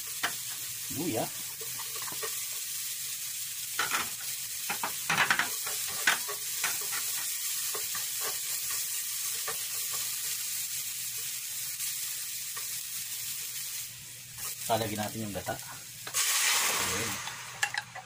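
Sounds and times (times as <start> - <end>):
oil sizzling in frying pan: 0.0 - 18.0.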